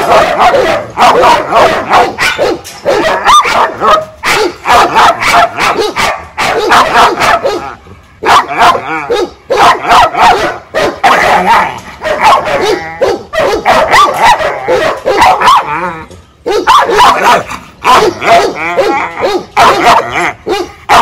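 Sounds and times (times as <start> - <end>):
dog barking loudly: 0.0 - 21.0.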